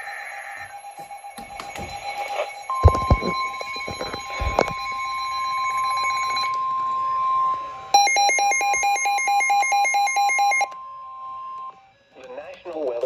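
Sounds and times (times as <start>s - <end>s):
high alarm tone: 0.0s - 11.9s.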